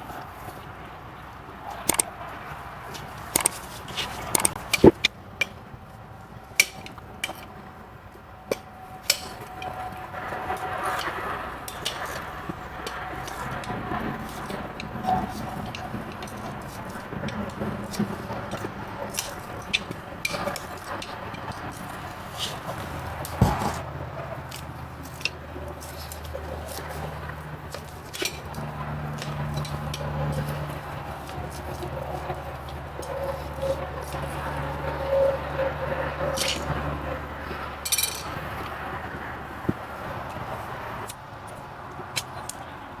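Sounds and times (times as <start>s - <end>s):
tool scraping horse hoof: 1.7s - 2.1s, 2.7s - 5.6s, 6.5s - 7.8s, 8.5s - 42.6s.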